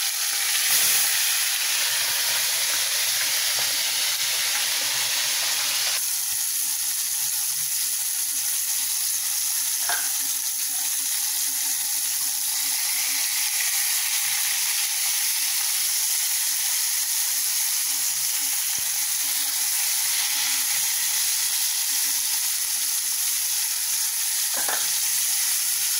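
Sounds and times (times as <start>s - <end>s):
fish sizzling in hot oil: 0.0s - 25.9s.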